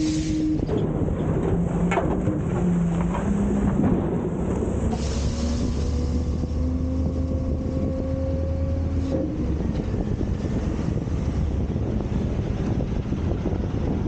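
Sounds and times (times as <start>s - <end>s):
truck engine and hydraulics: 0.0s - 14.0s.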